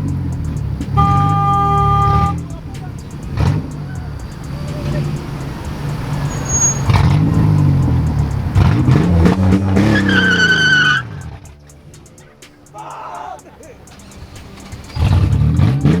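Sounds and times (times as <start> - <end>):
high tire squeal: 0.0 - 11.5, 12.2 - 16.0
car engine revving: 0.0 - 12.8, 13.4 - 16.0.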